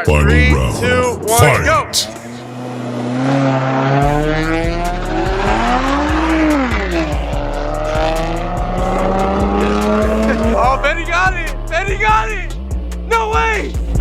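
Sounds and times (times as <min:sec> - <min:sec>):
cars accelerating hard: 0:01.3 - 0:13.1.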